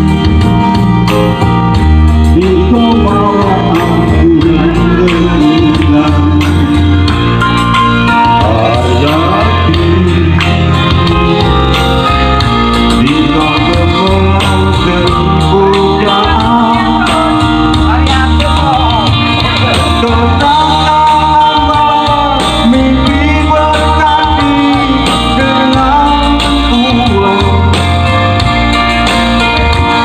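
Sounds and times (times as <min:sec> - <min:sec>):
instrumental accompaniment with bass: 0:00.0 - 0:30.0.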